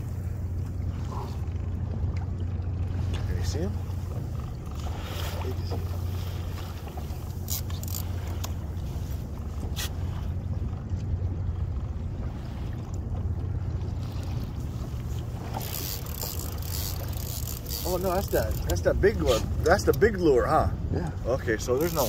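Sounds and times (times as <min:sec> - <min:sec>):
boat motor idling: 0:00.0 - 0:22.0.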